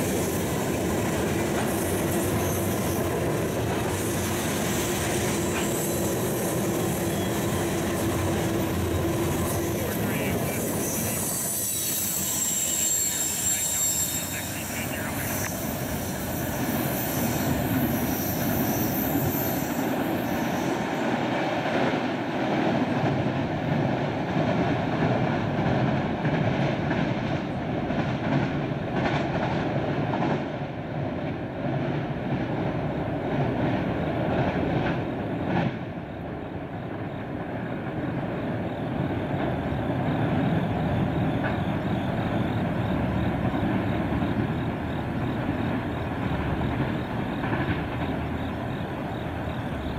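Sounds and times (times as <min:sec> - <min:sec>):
train wheels rumbling and rattling: 0:00.0 - 0:49.9.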